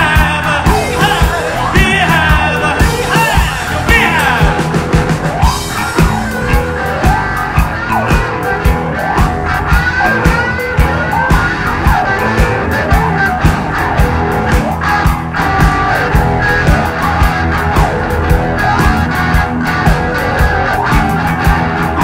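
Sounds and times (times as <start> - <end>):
drum hits steady beat: 0.0 - 22.0
high sliding guitar notes: 0.0 - 22.0
live rock band playing: 0.0 - 22.0.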